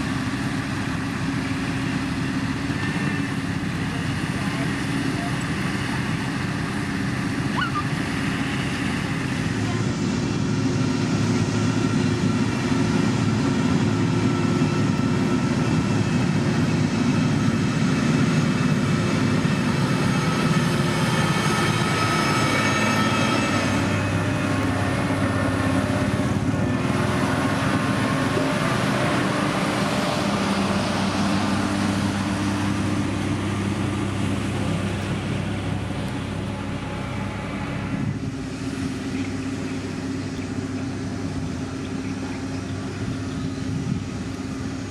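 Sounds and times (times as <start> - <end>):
diesel engine drone: 0.0 - 44.9.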